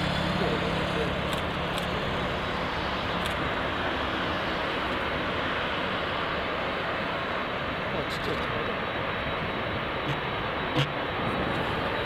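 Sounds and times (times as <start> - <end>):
jet engines at low thrust: 0.0 - 12.0.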